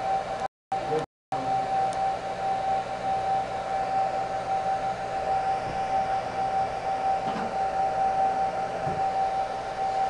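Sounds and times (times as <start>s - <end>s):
motor whine: 0.0s - 10.0s.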